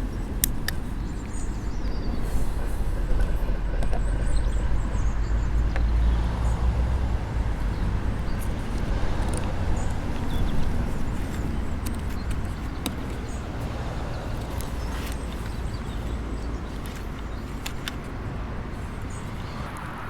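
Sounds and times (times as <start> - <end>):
birds chirping faintly: 0.0 - 20.0
train passing rumble: 0.0 - 20.0.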